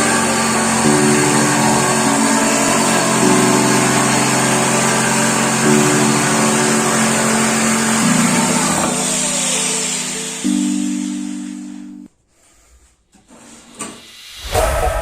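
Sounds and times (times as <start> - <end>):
sustained music chords: 0.0 - 12.1.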